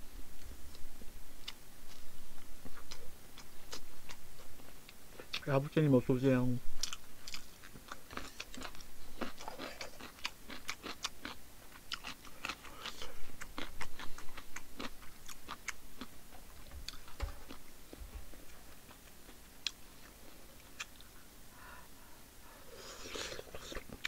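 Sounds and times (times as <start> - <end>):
person chewing and crunching: 1.4 - 5.5, 6.8 - 21.8, 22.4 - 24.0.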